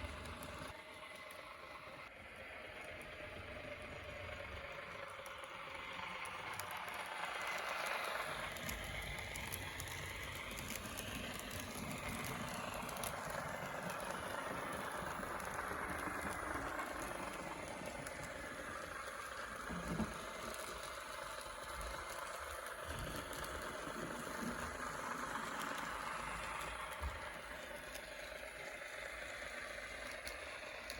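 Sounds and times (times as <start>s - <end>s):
model train motor whirring: 0.0s - 30.9s
wheels rattling on rails: 0.0s - 30.9s.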